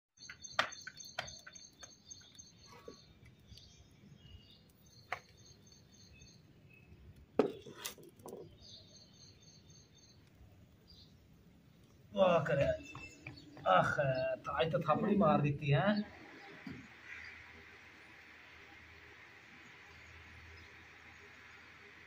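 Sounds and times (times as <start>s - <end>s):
small birds chirping: 0.1s - 22.0s.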